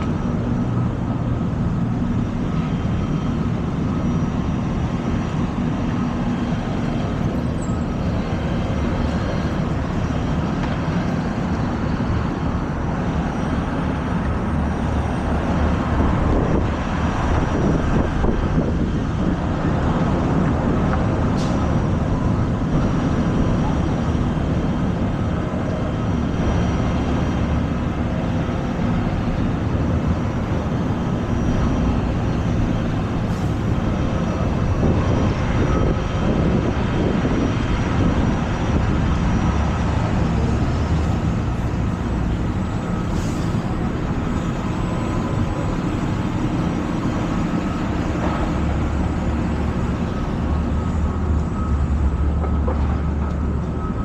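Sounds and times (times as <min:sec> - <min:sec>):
city street traffic: 0:00.0 - 0:54.0.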